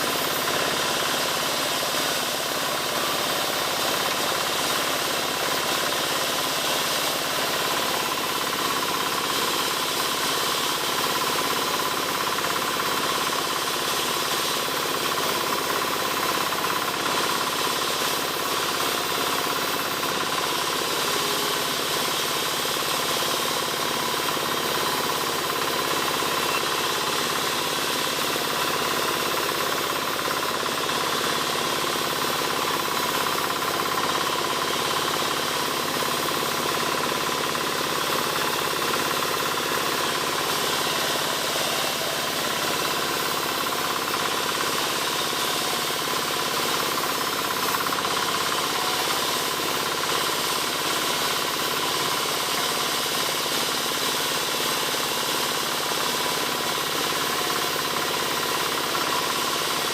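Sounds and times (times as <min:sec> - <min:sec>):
powered wood saw running: 0:00.0 - 0:59.9.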